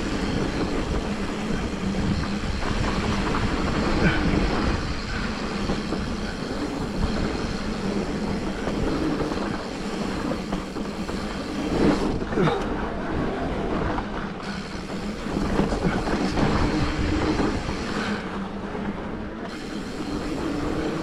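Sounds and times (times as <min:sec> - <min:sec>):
wind rushing on microphone: 0:00.0 - 0:21.0.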